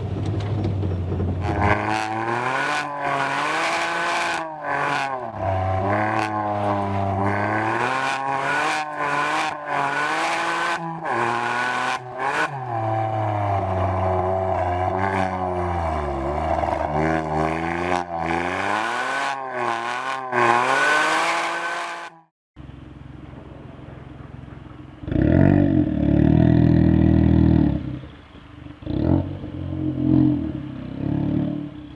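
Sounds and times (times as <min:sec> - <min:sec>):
car engine revving: 0:00.0 - 0:31.9.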